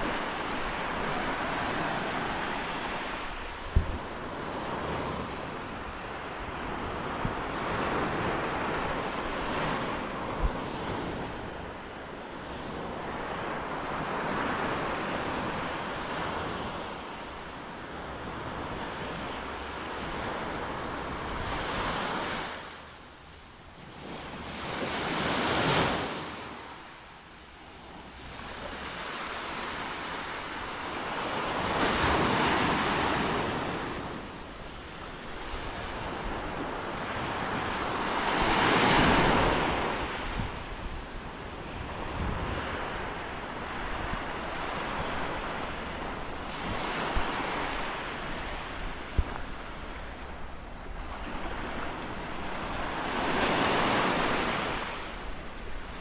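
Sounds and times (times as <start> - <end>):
small waves breaking on beach: 0.0 - 56.0
wind rumbling on microphone: 0.0 - 56.0.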